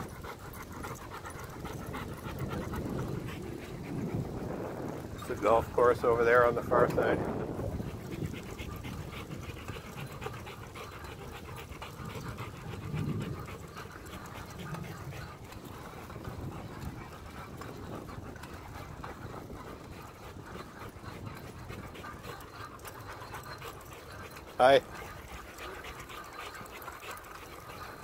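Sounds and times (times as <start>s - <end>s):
bicycle rumble: 0.0s - 28.0s
dog panting: 0.0s - 28.0s.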